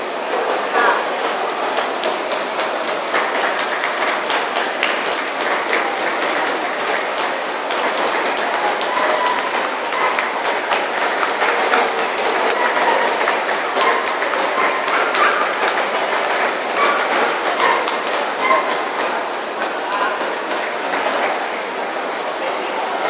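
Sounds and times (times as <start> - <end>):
crowd voices in a large hall: 0.0 - 23.0.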